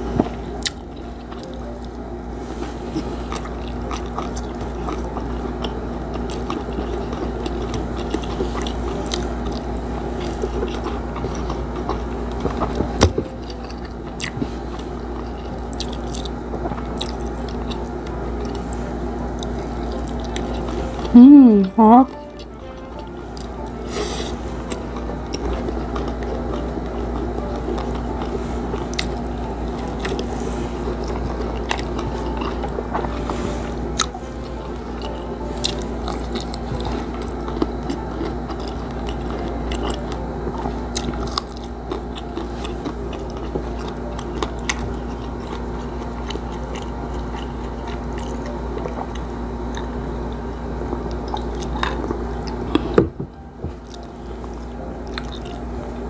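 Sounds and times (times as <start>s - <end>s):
chewing and crunching food: 0.0s - 56.0s
steady low hum: 0.0s - 56.0s.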